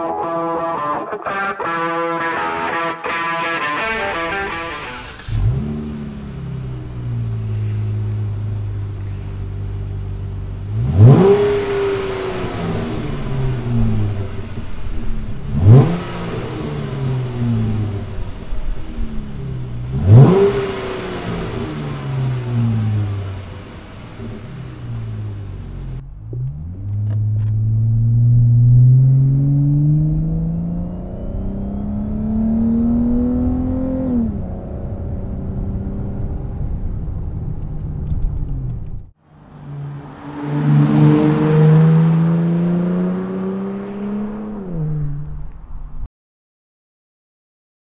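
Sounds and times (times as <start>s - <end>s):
car engine starting and revving: 3.8s - 46.1s.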